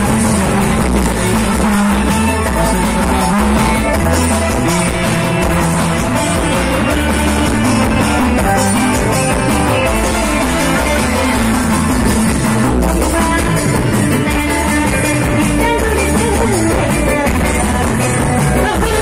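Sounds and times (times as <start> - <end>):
band music with guitar: 0.0 - 19.0.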